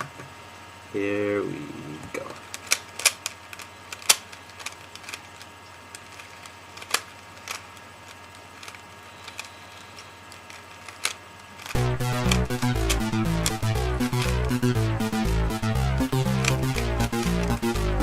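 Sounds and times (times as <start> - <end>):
plastic puzzle cube clicking: 2.4 - 18.0.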